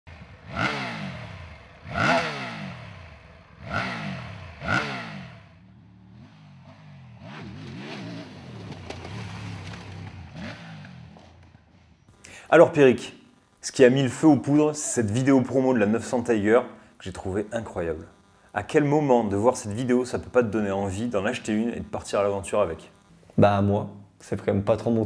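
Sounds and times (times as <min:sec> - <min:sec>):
motorcycle engine revving: 0:00.1 - 0:12.2, 0:14.5 - 0:23.3.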